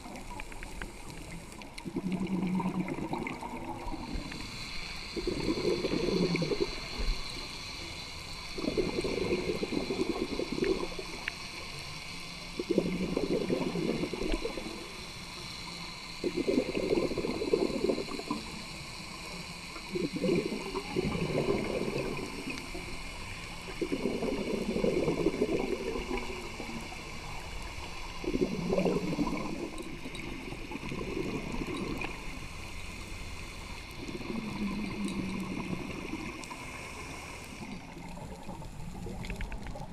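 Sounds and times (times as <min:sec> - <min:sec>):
exhaled bubbles gurgling underwater: 0:00.0 - 0:07.8, 0:08.4 - 0:39.9
regulator inhalations: 0:00.8 - 0:39.2.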